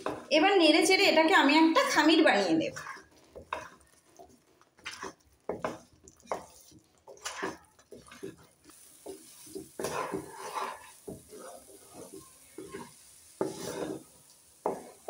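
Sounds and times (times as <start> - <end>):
spatula scraping metal pan: 1.9 - 15.0.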